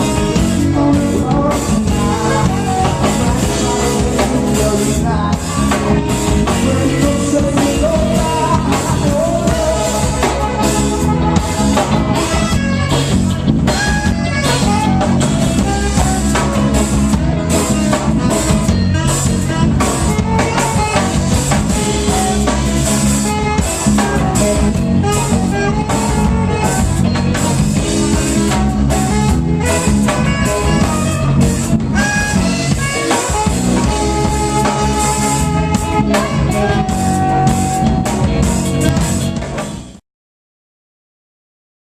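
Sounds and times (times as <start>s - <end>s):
live reggae band playing: 0.0s - 40.0s.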